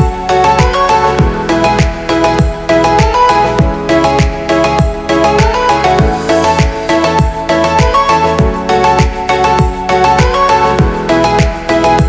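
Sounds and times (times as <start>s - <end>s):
deep kick drum beat: 0.0s - 11.7s
melody of held notes: 0.0s - 12.0s.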